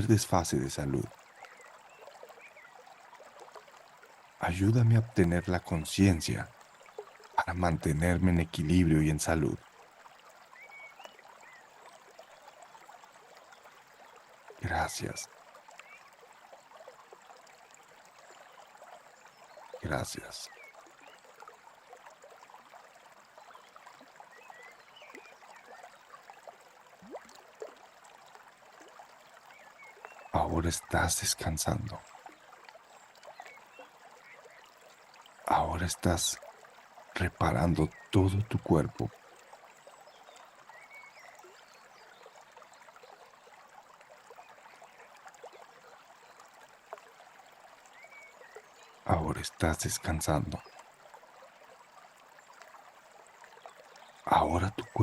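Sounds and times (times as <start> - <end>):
brook trickling and gurgling: 0.0 - 55.0.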